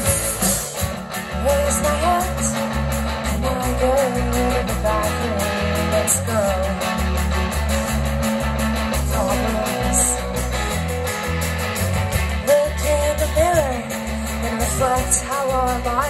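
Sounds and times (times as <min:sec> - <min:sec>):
electric guitar sliding notes: 0:00.0 - 0:16.0
live rock band playing: 0:00.0 - 0:16.0.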